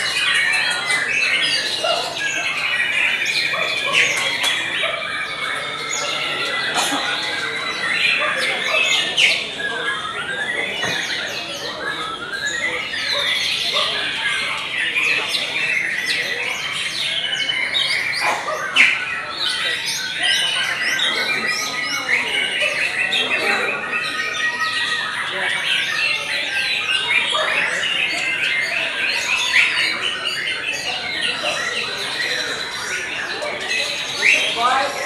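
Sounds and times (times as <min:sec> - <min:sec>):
birds singing: 0:00.0 - 0:35.0.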